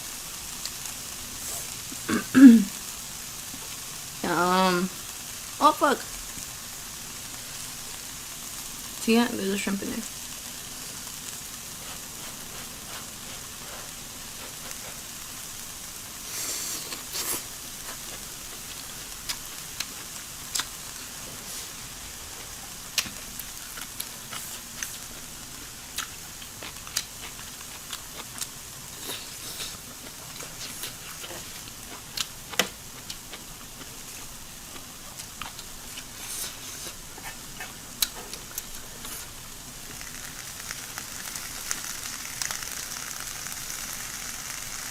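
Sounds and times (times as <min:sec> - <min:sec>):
food sizzling on a grill: 0:00.0 - 0:44.9.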